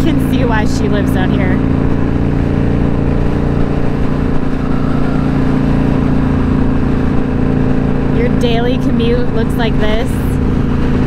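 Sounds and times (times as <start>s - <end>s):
motorcycle engine cruising: 0.0s - 11.0s
wind rush over microphone: 0.0s - 11.0s.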